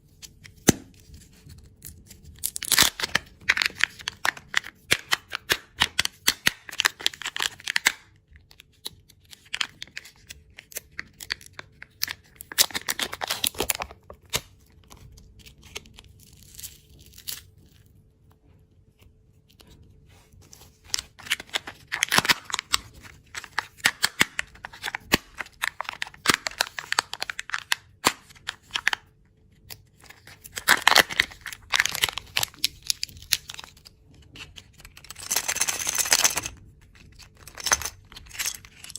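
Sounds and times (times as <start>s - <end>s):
quiet packaging handling: 0.0s - 38.9s.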